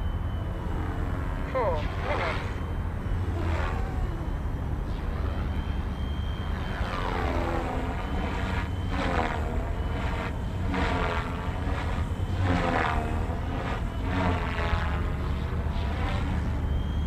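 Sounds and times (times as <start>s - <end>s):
rc helicopter rotors whining: 0.0s - 17.0s.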